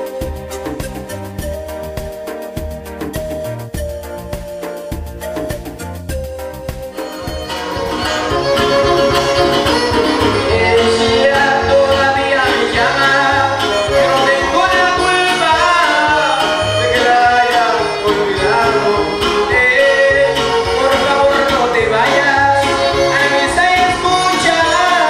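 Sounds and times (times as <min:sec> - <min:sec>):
strummed guitars: 0:00.0 - 0:25.0
violin melody: 0:00.0 - 0:25.0.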